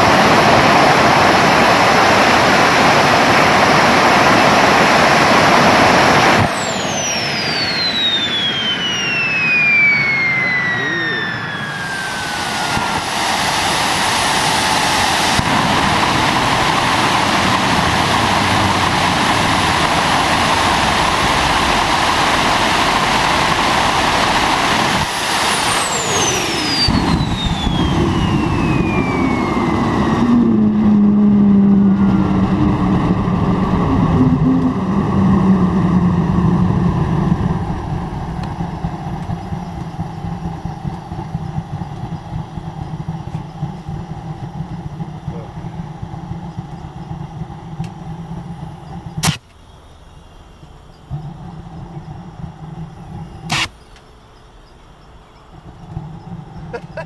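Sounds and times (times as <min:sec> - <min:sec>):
high turbine whine: 0:00.0 - 0:57.0
low engine rumble: 0:00.0 - 0:57.0
turbojet engine roar: 0:00.0 - 0:57.0.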